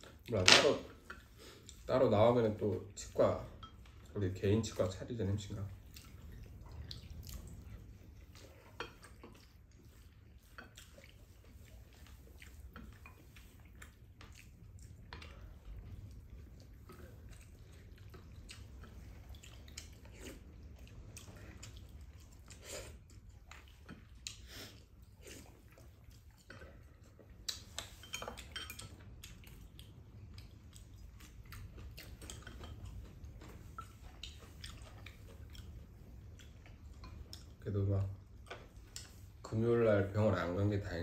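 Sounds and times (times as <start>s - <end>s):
chewing: 1.0s - 1.9s, 2.5s - 40.2s.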